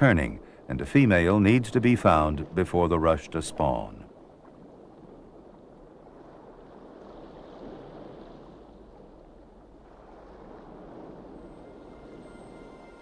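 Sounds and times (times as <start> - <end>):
underwater rushing water: 0.0 - 13.0.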